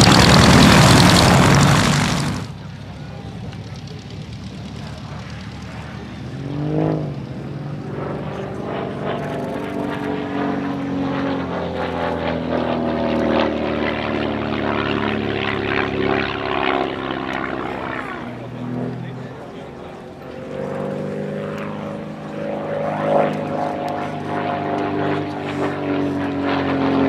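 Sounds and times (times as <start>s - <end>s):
propeller aircraft engine droning: 0.0s - 27.0s.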